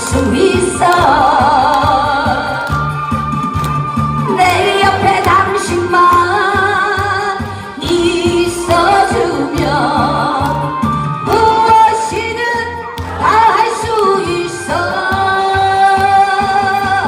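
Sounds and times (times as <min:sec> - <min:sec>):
woman singing into a microphone: 0:00.0 - 0:03.0, 0:04.2 - 0:17.0.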